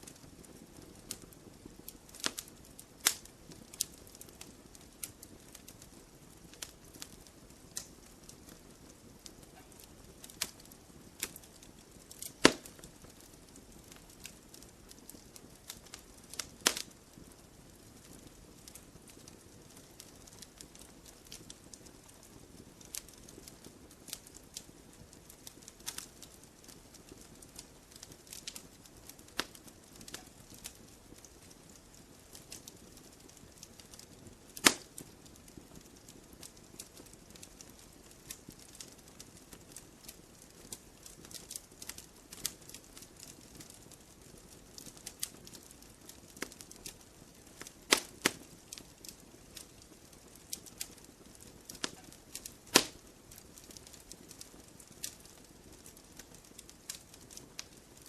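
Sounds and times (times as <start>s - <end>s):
campfire crackling: 0.0s - 58.0s
faint background noise: 0.0s - 58.0s.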